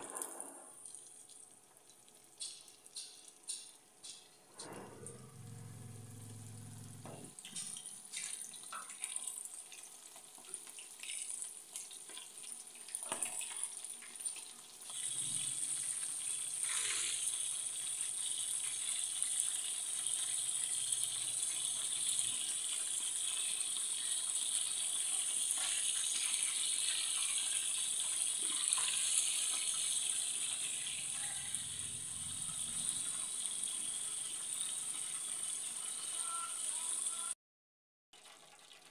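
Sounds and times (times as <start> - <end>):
chicken deep-frying in oil: 0.0 - 4.4, 5.3 - 37.4, 38.1 - 38.9.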